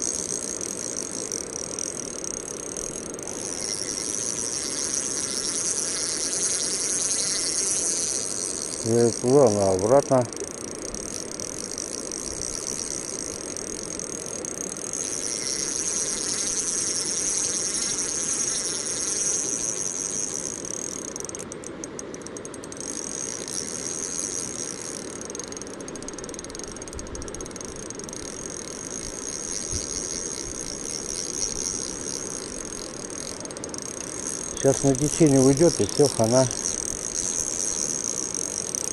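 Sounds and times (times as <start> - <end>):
fast reel clicks: 0.0 - 38.9
fishing reel ratcheting: 0.0 - 38.9
rushing river current: 0.0 - 38.9.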